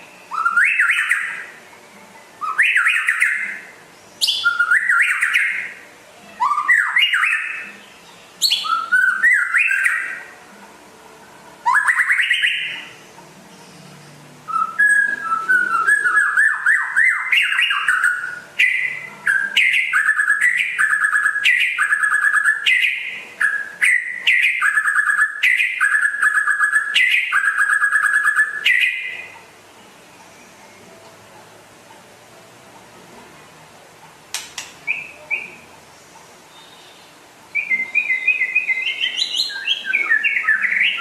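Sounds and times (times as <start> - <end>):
songbird singing: 0.0 - 10.4, 11.4 - 31.2, 34.4 - 41.0.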